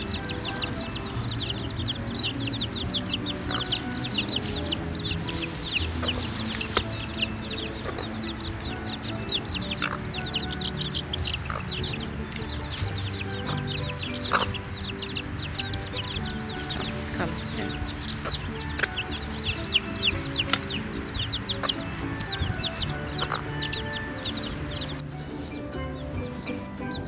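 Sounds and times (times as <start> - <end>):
baby chicks peeping: 0.0 - 27.0
soft background music: 0.0 - 27.0.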